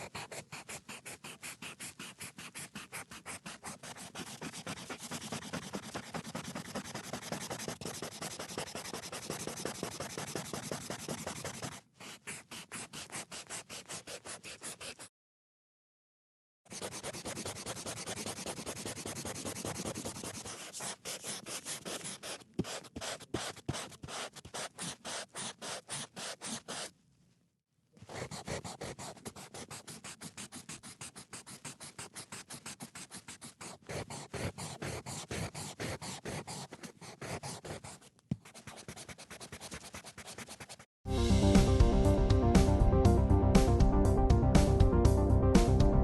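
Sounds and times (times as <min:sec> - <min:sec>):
eraser rubbing on paper: 0:00.0 - 0:15.1, 0:16.7 - 0:26.9, 0:28.0 - 0:40.9.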